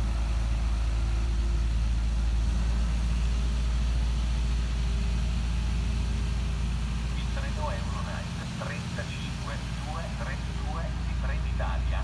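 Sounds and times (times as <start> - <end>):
train engine rumbling: 0.0 - 12.0.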